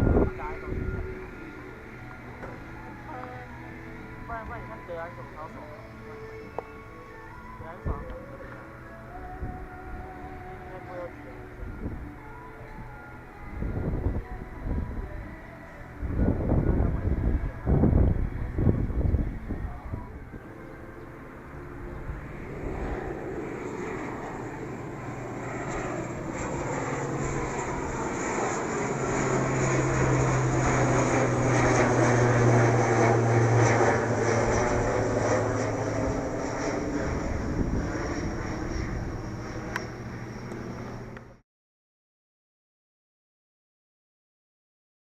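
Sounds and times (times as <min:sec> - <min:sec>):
turboprop plane taking off: 0:00.0 - 0:41.4.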